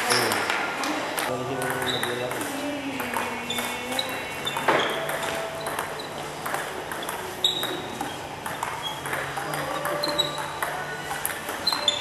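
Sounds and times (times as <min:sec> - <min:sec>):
ball bouncing on table: 0:01.2 - 0:12.0
ping pong ball clicking off paddles: 0:01.2 - 0:12.0.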